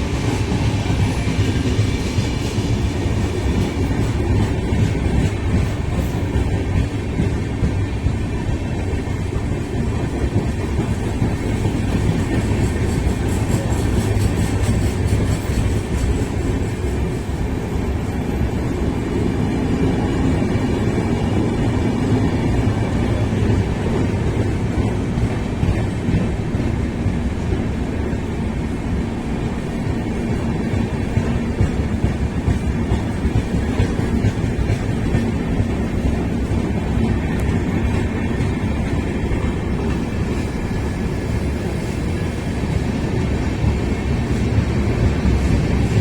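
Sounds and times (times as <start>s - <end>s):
train wheel-on-rail noise: 0.0s - 46.0s.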